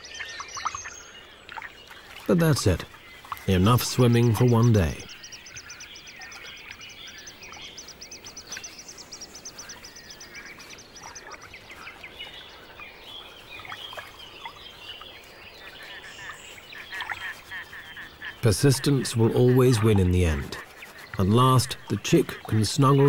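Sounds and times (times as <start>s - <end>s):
bird chick peeping: 0.0s - 23.0s.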